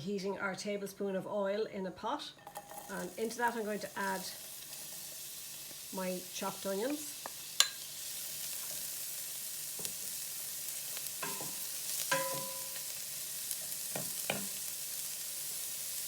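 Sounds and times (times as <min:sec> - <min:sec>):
onions sizzling in hot oil: 0:02.4 - 0:16.0.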